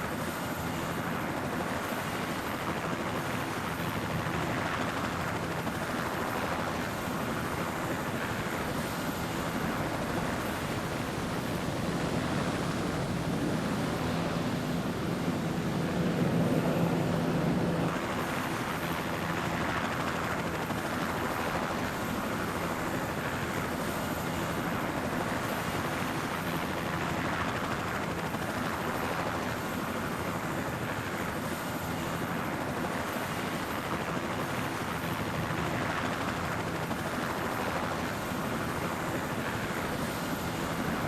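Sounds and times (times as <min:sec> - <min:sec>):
helicopter rotor and engine: 0:00.0 - 0:41.0.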